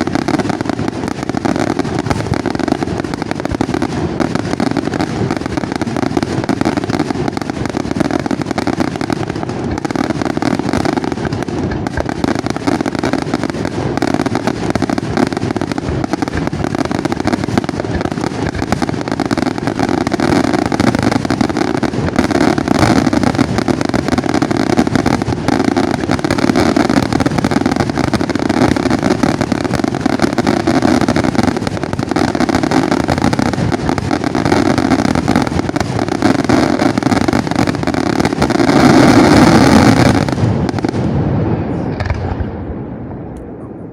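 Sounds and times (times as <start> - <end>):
fireworks exploding and crackling: 0.0 - 43.9.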